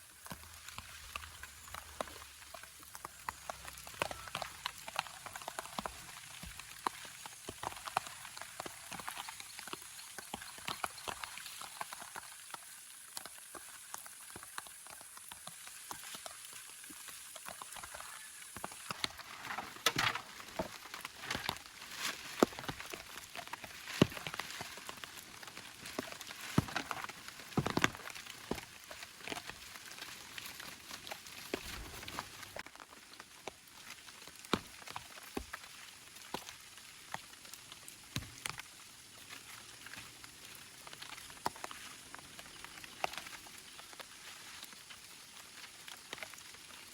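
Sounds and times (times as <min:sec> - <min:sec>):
raindrops ticking on a surface: 0:00.0 - 0:46.9
steady rain hiss: 0:00.0 - 0:46.9.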